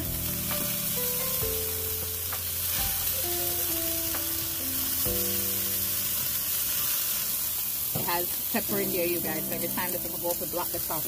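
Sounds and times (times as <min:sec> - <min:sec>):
background music: 0:00.0 - 0:06.9, 0:08.1 - 0:11.0
meat sizzling on a grill: 0:00.0 - 0:11.0.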